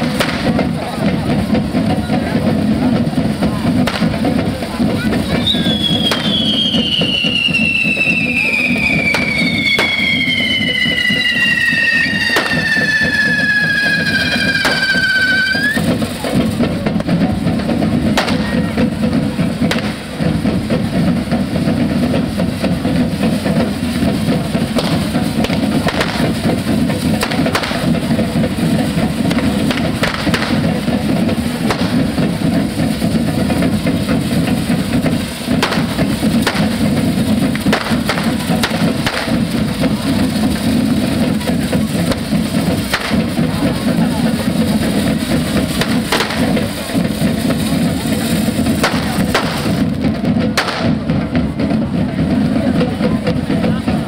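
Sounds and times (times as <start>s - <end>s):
firework bangs and cracks: 0.0s - 54.0s
whistling firework: 3.7s - 17.4s, 21.0s - 51.6s.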